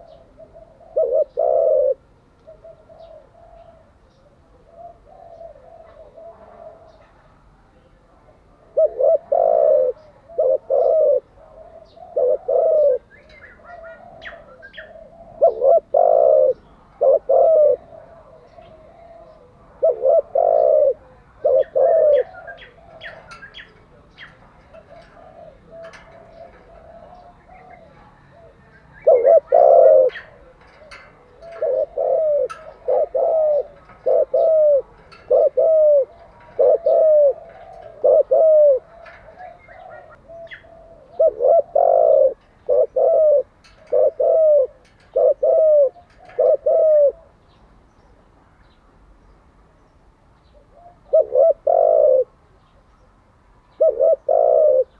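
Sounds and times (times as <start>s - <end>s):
dove cooing: 0.0s - 47.6s, 50.5s - 52.8s, 53.7s - 54.9s.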